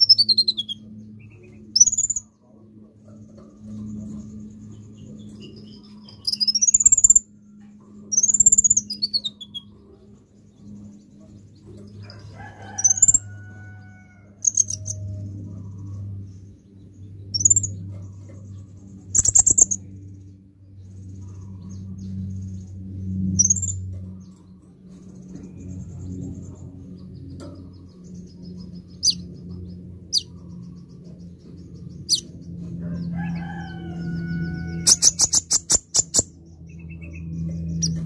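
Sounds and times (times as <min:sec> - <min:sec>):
bird chirping: 0:00.0 - 0:02.3, 0:03.4 - 0:07.3, 0:08.1 - 0:13.8, 0:14.4 - 0:38.0
low hum: 0:00.0 - 0:38.0.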